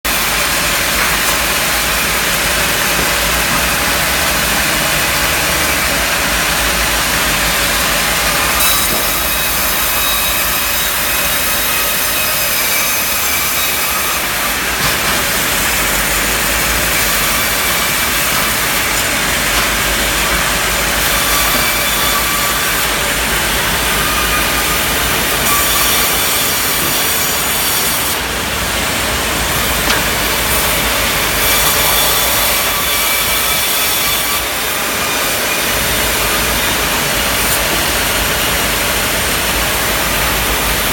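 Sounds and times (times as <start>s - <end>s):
band saw cutting wood: 0.1s - 40.9s
machinery running: 0.1s - 40.9s.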